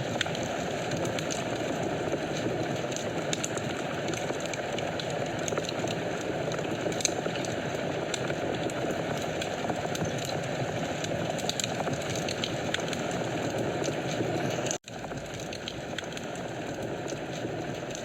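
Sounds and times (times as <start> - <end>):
low flame noise: 0.0 - 18.0
wood fire crackles and pops: 0.0 - 18.0.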